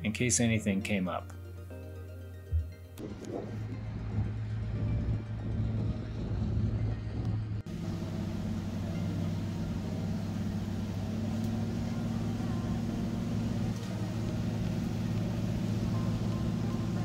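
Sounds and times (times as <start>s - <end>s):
diesel engines droning: 3.0s - 17.0s.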